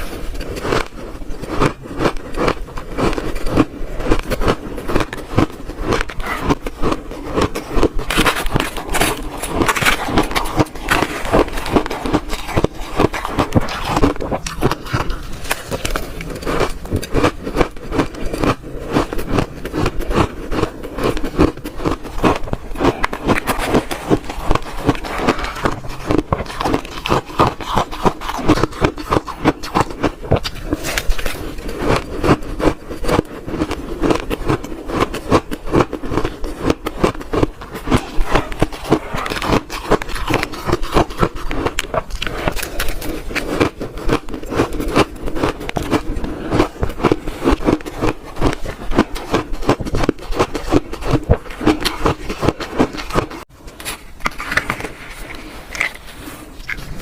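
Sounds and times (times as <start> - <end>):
shaved ice crunching being chewed: 0.0 - 57.0.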